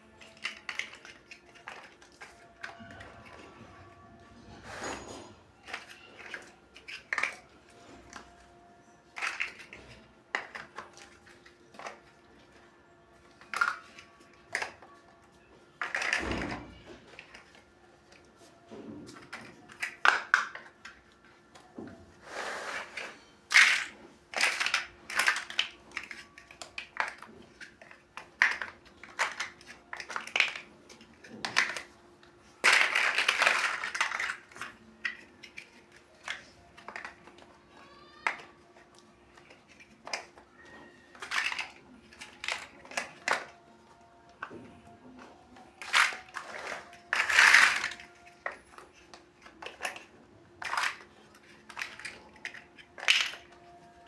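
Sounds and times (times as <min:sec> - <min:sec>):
plastic bricks clicking: 0:00.1 - 0:03.4, 0:05.6 - 0:08.4, 0:09.1 - 0:12.6, 0:13.2 - 0:18.2, 0:19.1 - 0:21.6, 0:22.8 - 0:44.8, 0:45.6 - 0:54.0.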